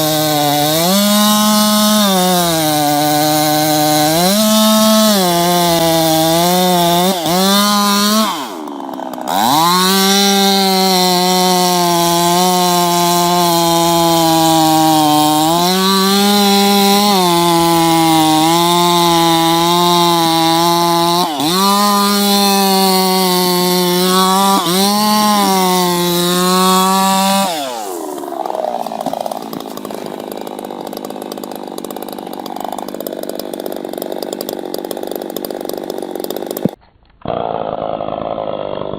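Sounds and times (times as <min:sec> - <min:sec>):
chainsaw cutting at full throttle: 0:00.0 - 0:38.9.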